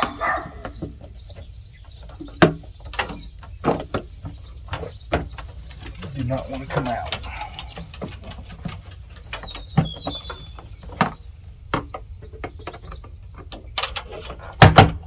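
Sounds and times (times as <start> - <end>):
bird chirping: 0.0 - 14.6.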